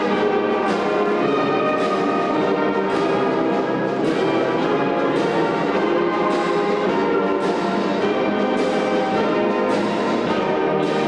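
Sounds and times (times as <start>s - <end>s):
brass band music: 0.0s - 11.0s.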